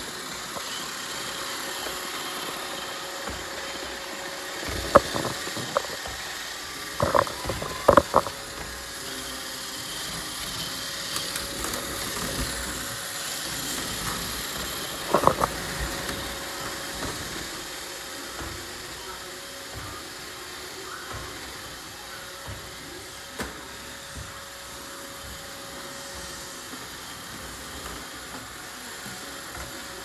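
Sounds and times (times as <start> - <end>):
robot vacuum whirring: 0.0 - 30.0.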